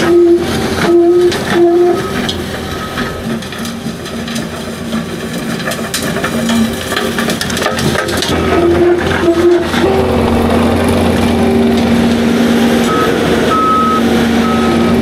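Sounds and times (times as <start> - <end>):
mulcher grinding soil and brush: 0.0 - 15.0.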